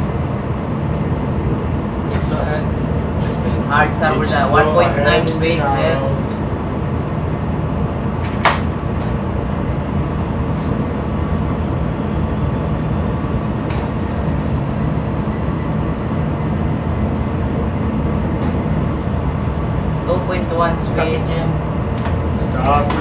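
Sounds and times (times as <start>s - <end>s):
ship engine low rumble: 0.0s - 23.0s.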